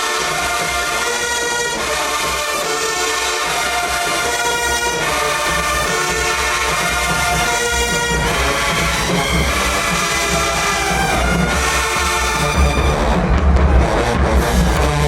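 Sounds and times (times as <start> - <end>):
marching band brass chords: 0.0 - 15.0
low drums: 0.3 - 15.0.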